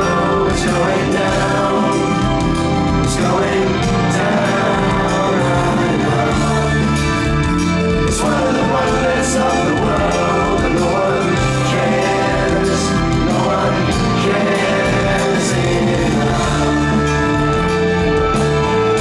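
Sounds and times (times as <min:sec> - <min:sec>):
live rock band playing: 0:00.0 - 0:19.0
voices singing: 0:00.0 - 0:19.0.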